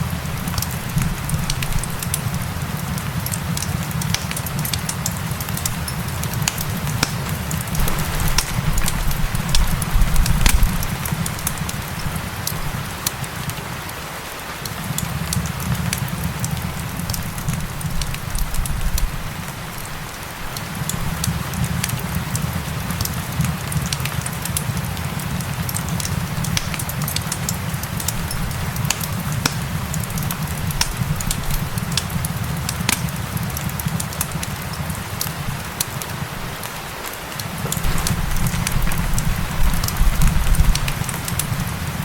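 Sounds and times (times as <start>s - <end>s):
rain hissing: 0.0s - 42.0s
wood fire crackling and popping: 0.0s - 42.0s.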